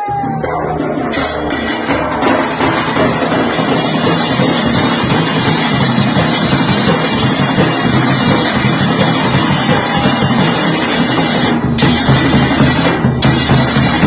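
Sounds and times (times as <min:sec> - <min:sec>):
folk music with rapid drumming: 0:00.0 - 0:14.0.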